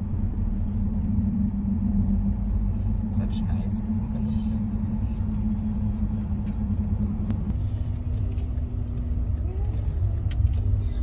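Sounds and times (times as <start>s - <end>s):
engine and road rumble: 0.0s - 11.0s
steady hum: 0.0s - 11.0s.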